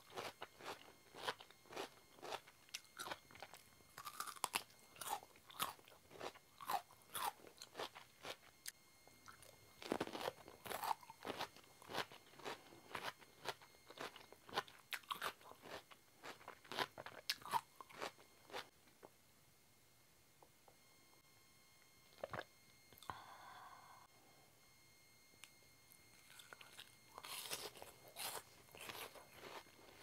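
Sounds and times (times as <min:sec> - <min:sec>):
person chewing crunchy food: 0:00.0 - 0:19.1, 0:22.1 - 0:23.6, 0:26.1 - 0:30.0.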